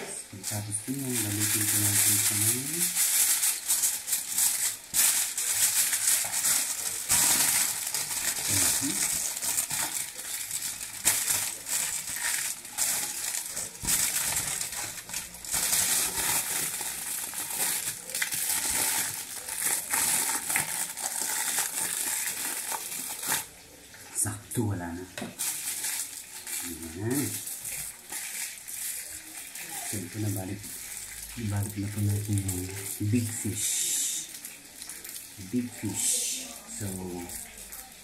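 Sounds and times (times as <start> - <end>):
aluminium foil crinkling: 0.0 - 24.2, 25.2 - 38.0.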